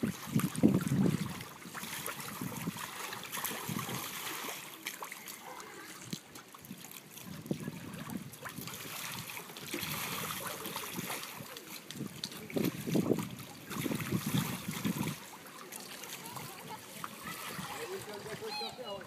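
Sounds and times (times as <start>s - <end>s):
pool water sloshing: 0.0s - 19.0s.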